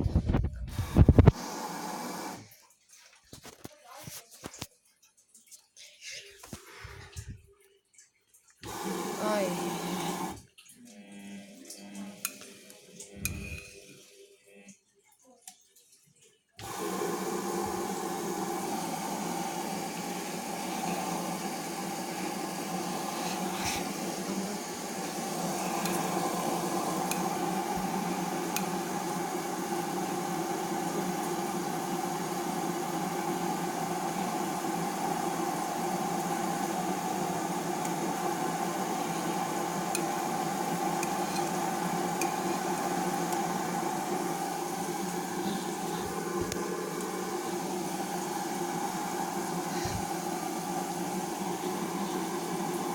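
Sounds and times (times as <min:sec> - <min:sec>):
washing machine running with water: 0:00.0 - 0:52.9.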